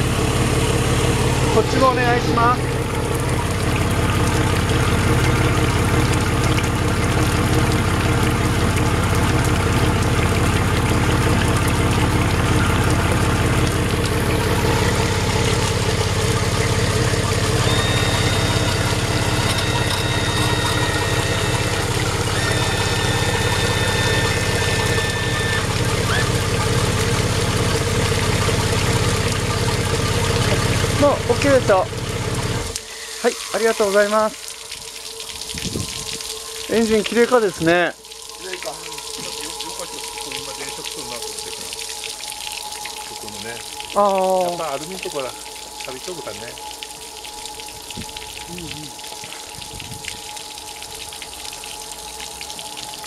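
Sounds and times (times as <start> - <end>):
outboard motor idling: 0.0 - 53.0
water spattering: 0.0 - 53.0.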